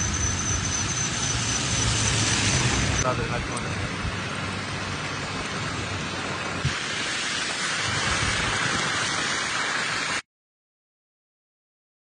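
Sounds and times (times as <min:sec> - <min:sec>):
heavy rain falling: 0:00.1 - 0:10.2.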